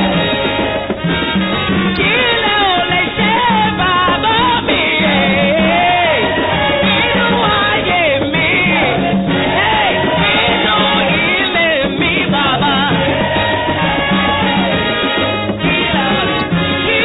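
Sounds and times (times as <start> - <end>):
church choir singing gospel: 0.0 - 17.0
lead voice on a microphone: 1.9 - 17.0.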